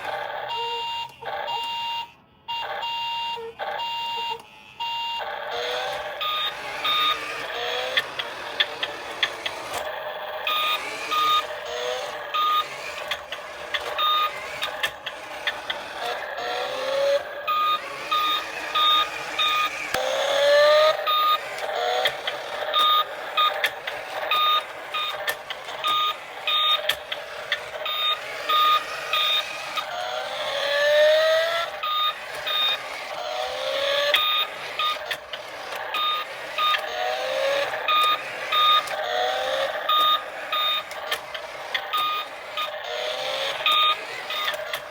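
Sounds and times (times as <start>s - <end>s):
toy rising tones: 0.0s - 44.9s
toy short beeps: 0.4s - 9.8s, 10.4s - 20.0s, 20.6s - 44.8s.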